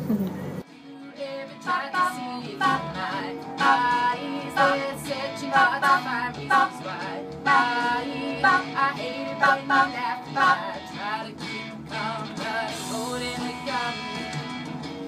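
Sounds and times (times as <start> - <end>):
instrumental backing: 0.6 - 15.0
women singing: 1.0 - 14.2.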